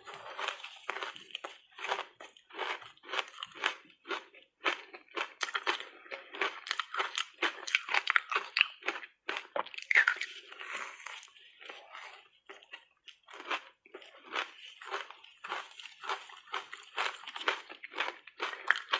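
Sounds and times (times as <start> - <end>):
person crunching ice: 0.0 - 11.9, 13.3 - 18.9.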